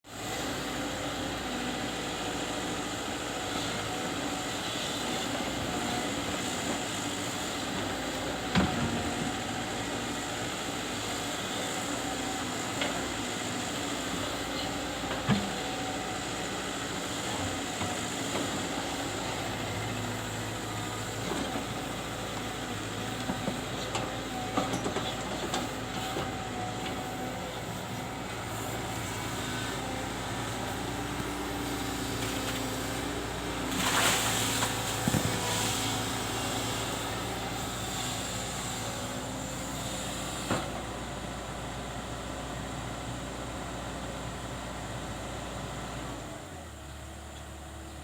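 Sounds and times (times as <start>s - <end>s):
excavator running: 0.1s - 48.0s.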